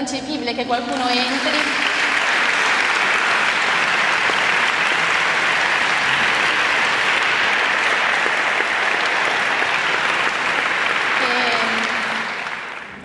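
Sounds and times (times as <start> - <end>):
audience applauding: 0.9 - 13.0.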